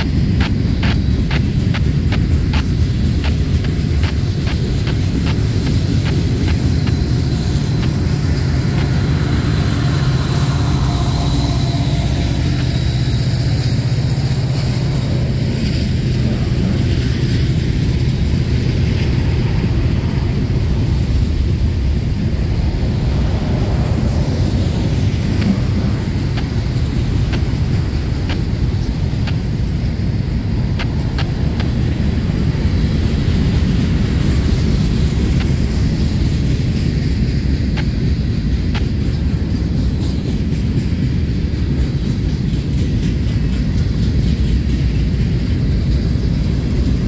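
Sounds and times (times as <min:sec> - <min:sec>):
freight train wheels rumbling on rail: 0:00.0 - 0:47.0
wheels clicking over rail joints: 0:00.0 - 0:47.0.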